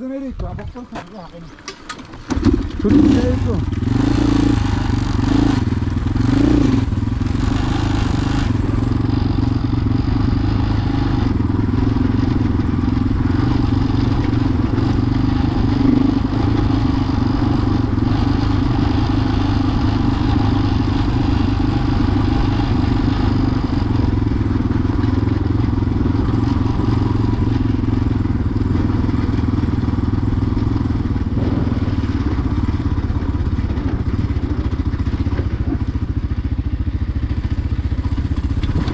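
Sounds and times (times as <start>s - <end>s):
road noise: 0.0s - 38.9s
vehicle engine drone: 0.0s - 38.9s.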